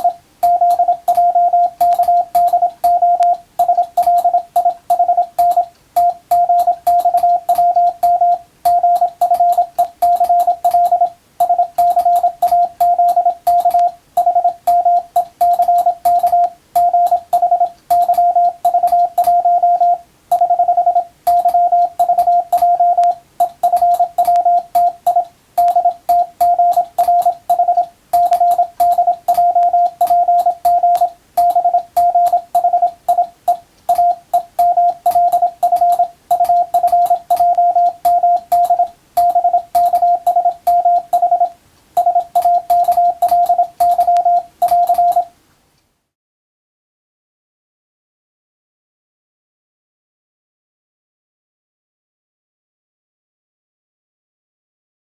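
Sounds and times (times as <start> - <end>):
faint keying clicks: 0.0 - 45.3
morse code tone: 0.0 - 45.3.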